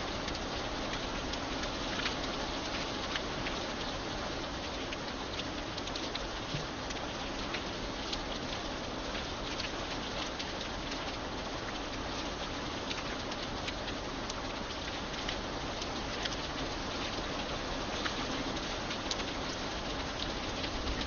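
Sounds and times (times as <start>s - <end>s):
raindrops ticking: 0.0s - 21.0s
steady rain hiss: 0.0s - 21.0s.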